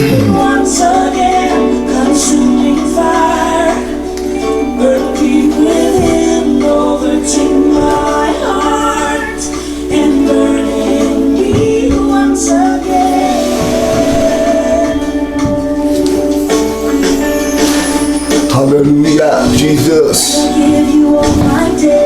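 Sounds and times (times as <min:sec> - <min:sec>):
gospel singing with instruments: 0:00.0 - 0:22.0.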